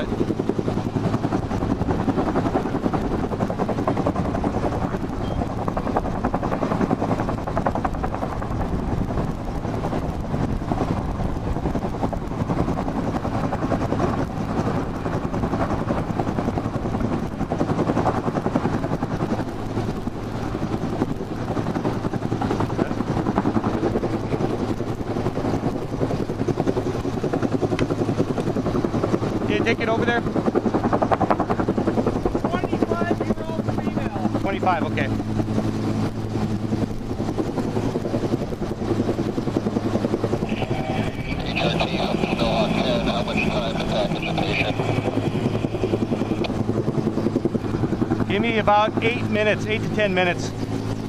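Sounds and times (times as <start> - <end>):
helicopter rotor chop and engine: 0.0 - 51.0.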